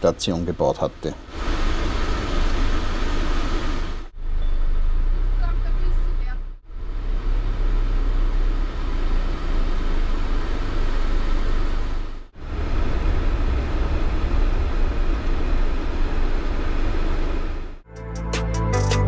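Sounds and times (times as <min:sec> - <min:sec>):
engine and road noise rumble: 0:00.0 - 0:17.8.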